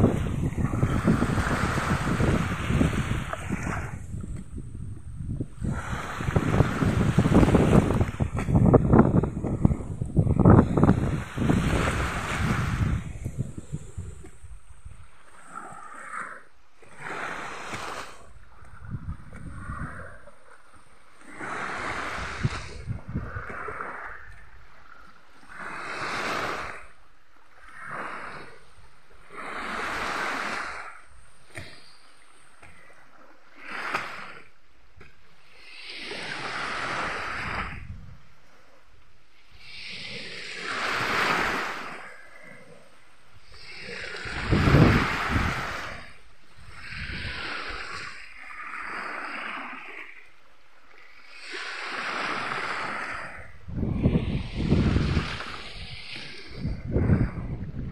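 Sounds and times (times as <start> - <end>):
small waves washing up beach: 0.0 - 57.9.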